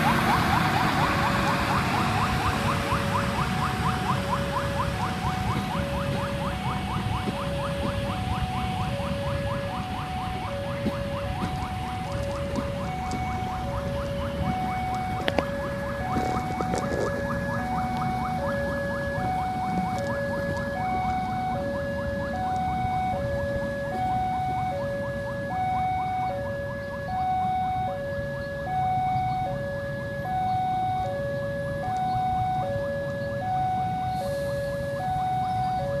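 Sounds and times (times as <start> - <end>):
level crossing alarm: 0.0 - 36.0.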